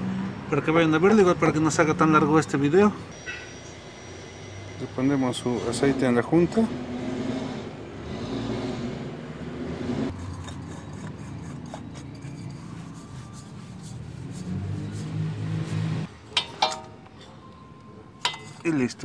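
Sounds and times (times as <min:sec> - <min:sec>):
vehicle engine humming: 0:01.1 - 0:18.6.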